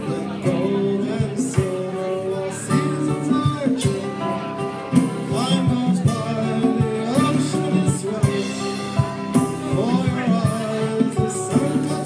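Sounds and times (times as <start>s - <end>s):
acoustic guitar: 0.0s - 12.0s
person singing: 0.0s - 12.0s
drum kit and cymbals: 1.2s - 12.0s.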